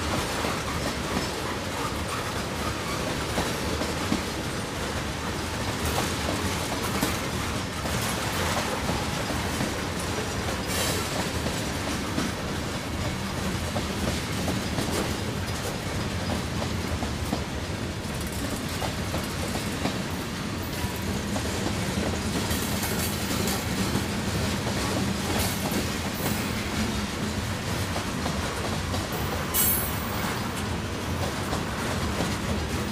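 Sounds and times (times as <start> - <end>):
train wheels rumbling on rails: 0.0 - 32.9
wheels clicking over rail joints: 0.1 - 32.9.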